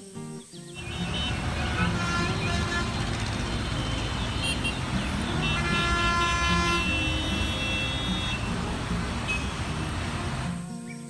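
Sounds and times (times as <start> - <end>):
vehicle horn honking: 0.8 - 10.5
road traffic rumble: 0.8 - 10.6.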